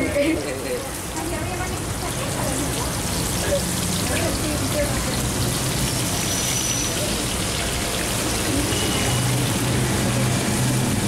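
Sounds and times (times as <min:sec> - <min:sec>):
deep-frying sizzle: 0:00.0 - 0:11.0.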